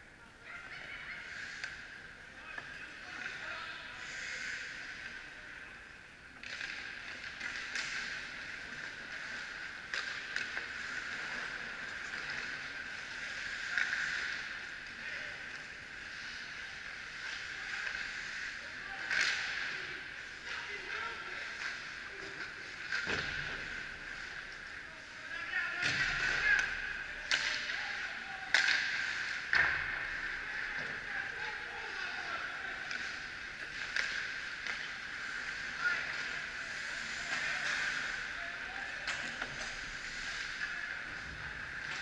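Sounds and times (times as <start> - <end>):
hockey sticks and puck clicking: 6.3 - 24.6, 25.8 - 32.0, 32.7 - 42.0.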